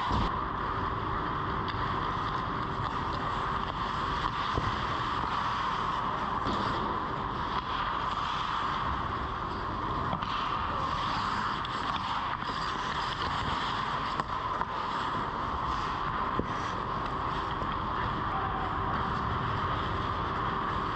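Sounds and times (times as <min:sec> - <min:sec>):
rink hum and hiss: 0:00.0 - 0:20.9
skates scraping ice: 0:01.7 - 0:20.9.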